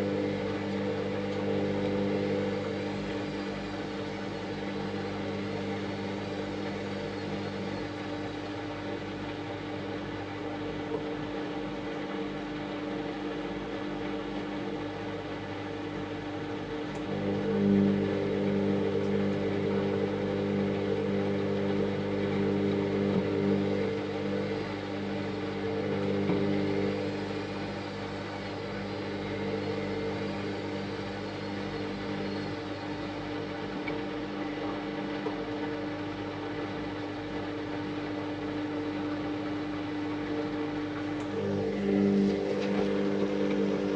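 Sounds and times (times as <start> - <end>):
washing machine running: 0.0 - 43.9.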